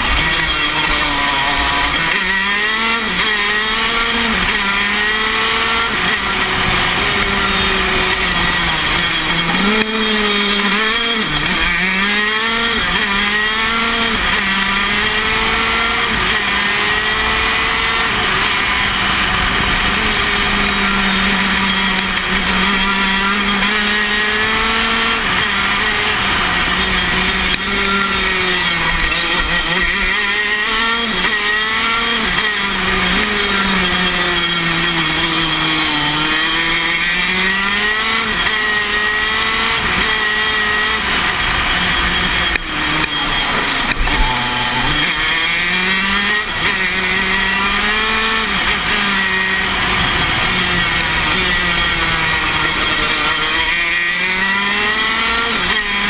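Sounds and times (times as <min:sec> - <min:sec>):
two-stroke kart engine revving: 0:00.0 - 0:56.0.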